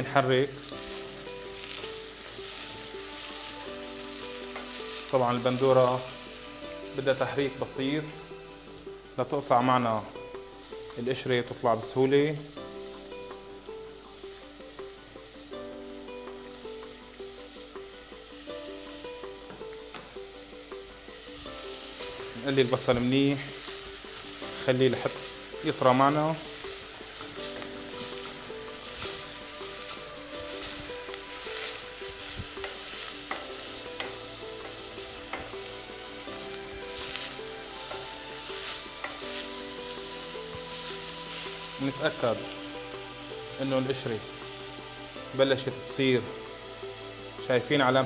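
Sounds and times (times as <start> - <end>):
light background melody: 0.0 - 48.0
onions sizzling in hot oil: 0.0 - 48.0.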